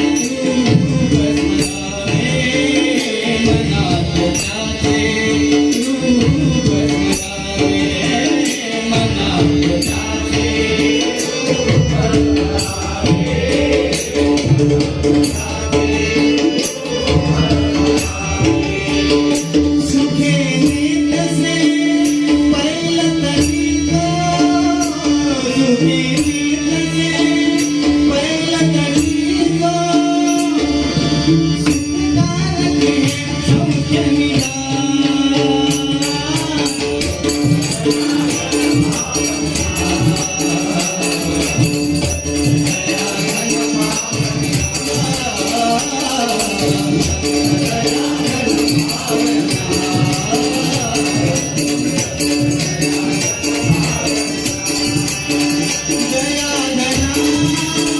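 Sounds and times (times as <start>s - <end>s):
jingling hand percussion: 0.0s - 57.9s
person singing devotional song: 0.0s - 57.9s.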